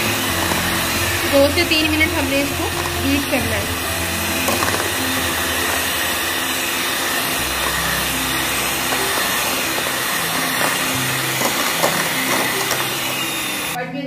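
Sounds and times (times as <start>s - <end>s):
electric hand mixer whisking: 0.0s - 13.8s.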